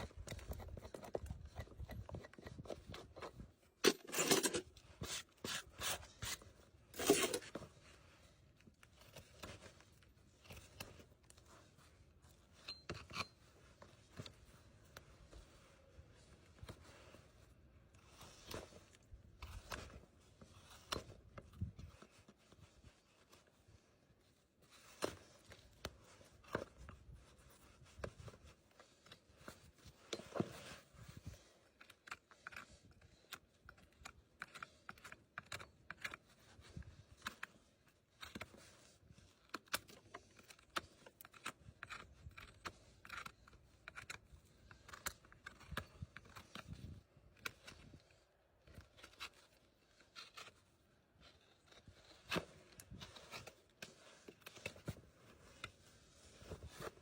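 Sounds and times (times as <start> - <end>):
tools scraping hoof: 0.0 - 7.9, 9.0 - 15.4, 24.6 - 57.0.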